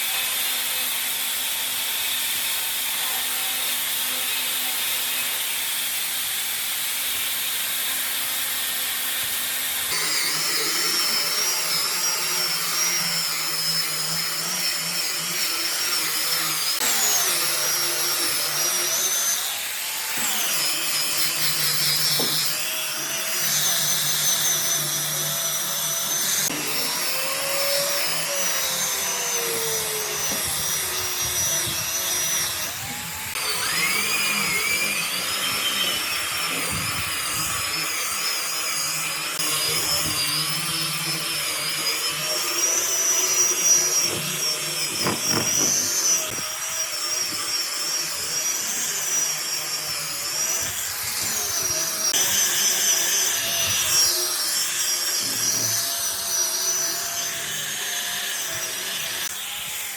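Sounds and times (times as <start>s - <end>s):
electric power tool running: 0.0s - 59.9s.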